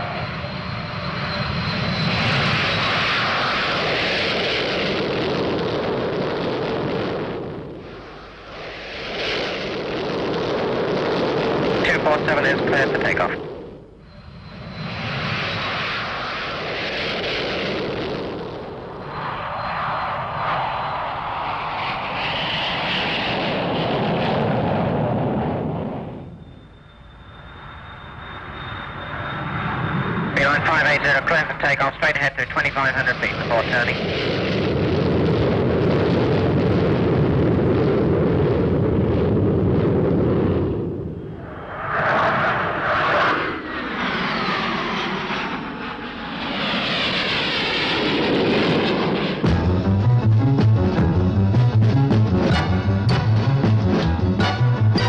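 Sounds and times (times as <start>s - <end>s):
high jet whine: 0.0s - 37.4s, 38.8s - 55.0s
jet airliner roar: 0.0s - 55.0s.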